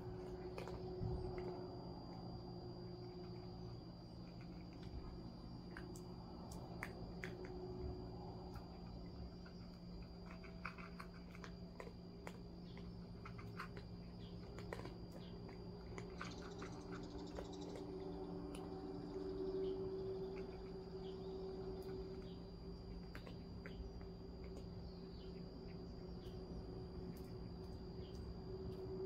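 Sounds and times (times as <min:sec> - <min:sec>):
cats chewing crunchy food: 0:00.0 - 0:29.0
steady low hum: 0:00.0 - 0:29.0.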